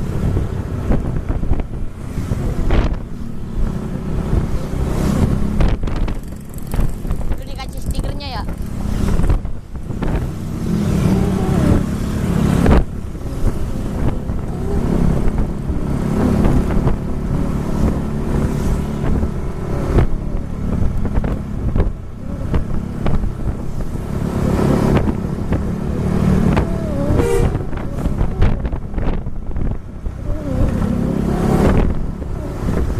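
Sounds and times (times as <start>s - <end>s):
traffic engines and road noise: 0.0s - 32.9s.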